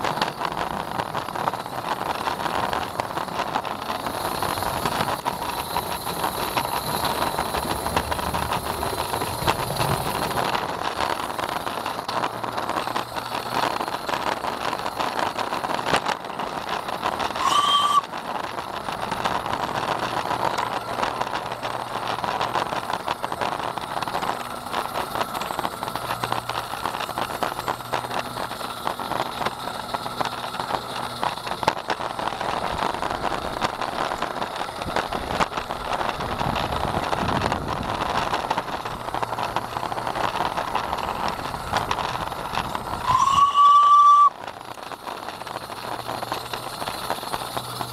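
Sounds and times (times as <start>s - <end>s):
model train wheels rattling: 0.0s - 47.9s.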